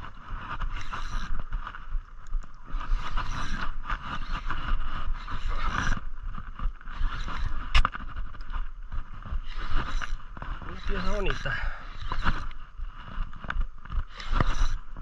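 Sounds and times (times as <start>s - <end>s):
fishing reel being cranked: 0.0s - 15.0s.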